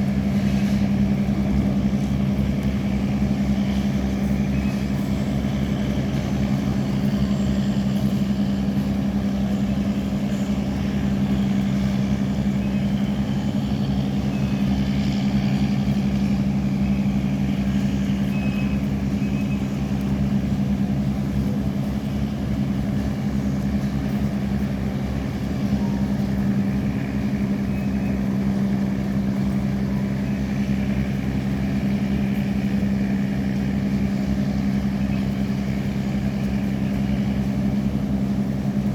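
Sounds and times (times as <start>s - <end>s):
boat diesel engine running: 0.0s - 38.9s.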